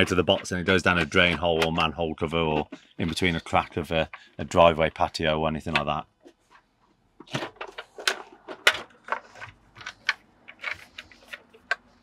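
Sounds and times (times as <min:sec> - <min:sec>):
plastic clicks and knocks: 0:00.0 - 0:04.7, 0:05.6 - 0:06.4, 0:07.2 - 0:12.0.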